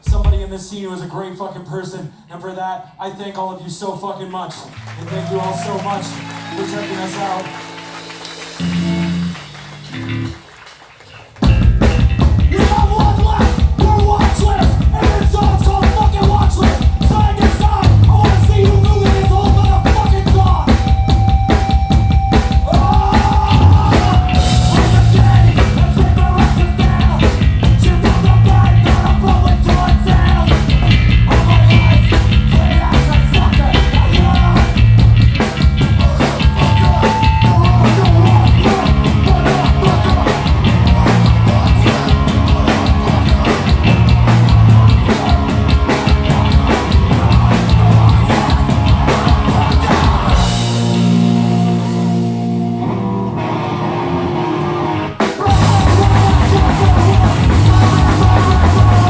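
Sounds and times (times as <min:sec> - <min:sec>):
punk band playing live: 0:00.0 - 0:00.6, 0:04.9 - 0:59.0.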